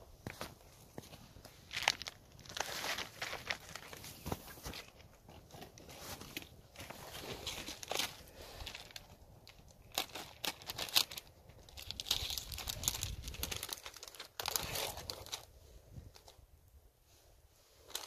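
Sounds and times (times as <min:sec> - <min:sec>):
rustling and crinkling handling: 0:00.0 - 0:18.0.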